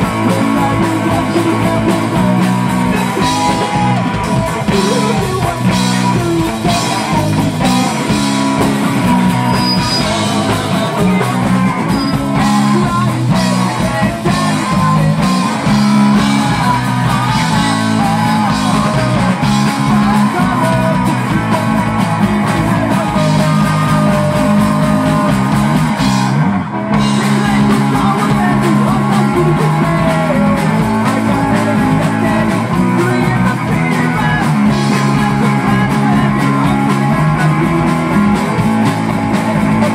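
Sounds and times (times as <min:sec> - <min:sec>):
person singing: 0:00.0 - 0:26.3, 0:26.9 - 0:39.9
live rock band playing: 0:00.0 - 0:39.9.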